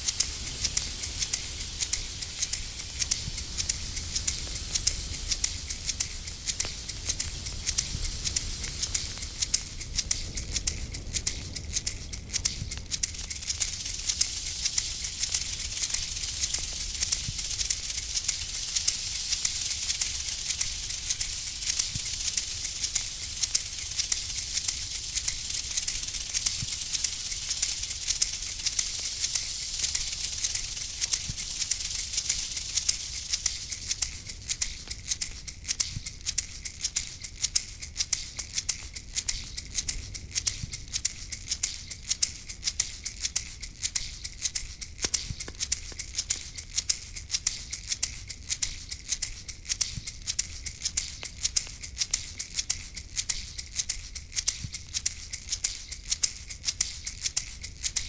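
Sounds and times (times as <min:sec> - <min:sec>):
high hiss: 0:00.0 - 0:58.0
shaker rattle: 0:00.0 - 0:58.0.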